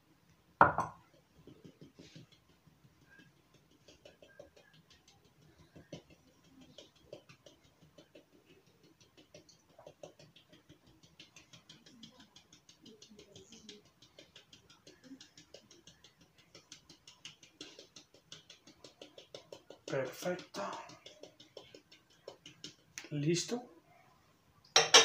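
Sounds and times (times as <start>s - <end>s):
hand tapping flour sieve: 0.6s - 23.2s.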